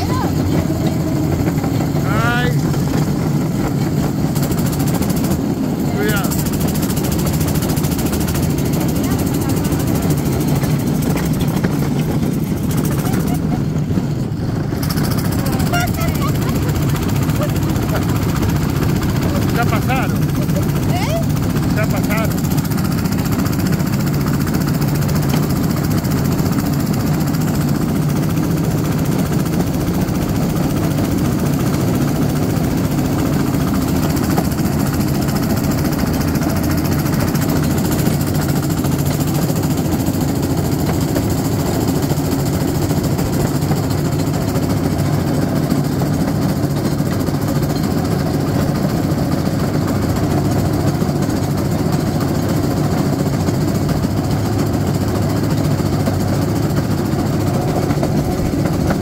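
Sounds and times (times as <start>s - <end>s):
cart rattling on rails: 0.0s - 59.0s
railcart engine drone: 0.0s - 59.0s.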